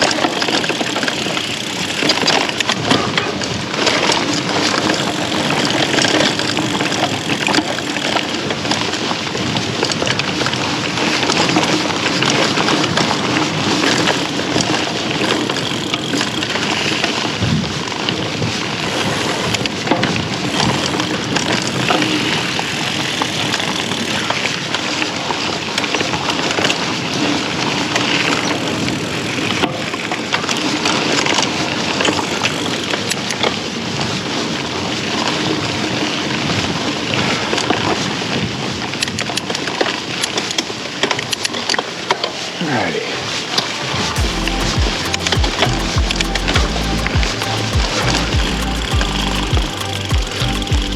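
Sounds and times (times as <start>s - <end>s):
bike rattling and clicking: 0.0s - 42.4s, 43.6s - 50.9s
bike tyres rolling on dirt: 0.0s - 42.6s.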